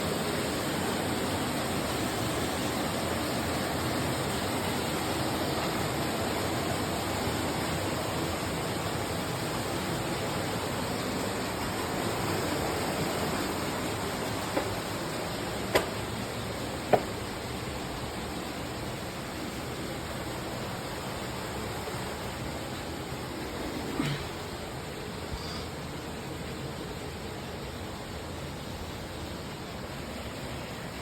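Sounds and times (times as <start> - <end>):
waterfall rushing in a cave: 0.0 - 31.0.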